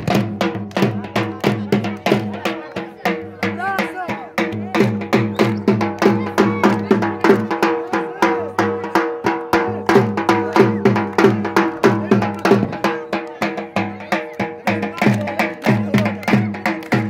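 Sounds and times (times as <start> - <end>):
dhol drumming fast beat: 0.0 - 17.0.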